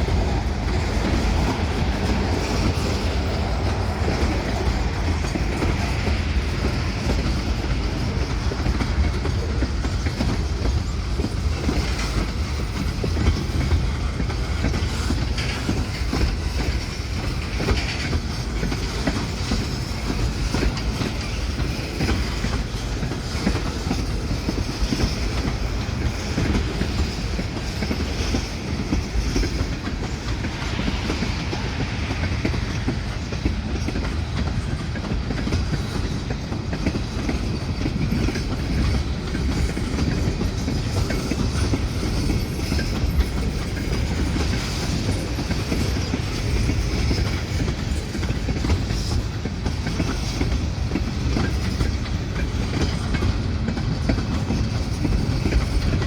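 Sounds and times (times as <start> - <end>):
train cars rumbling past: 0.0 - 56.0.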